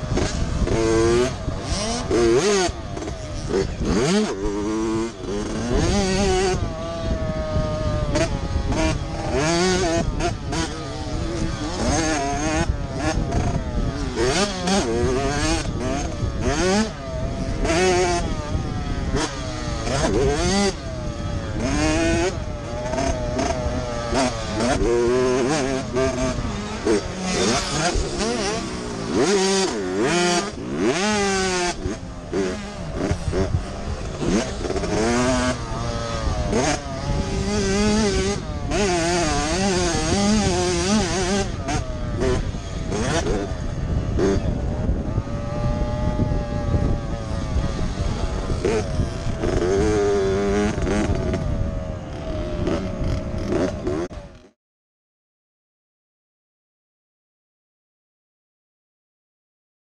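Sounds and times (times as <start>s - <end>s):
rush of air noise: 0.0s - 53.9s
wind buffeting microphone: 0.0s - 54.4s
motocross bike engine revving: 0.0s - 54.6s.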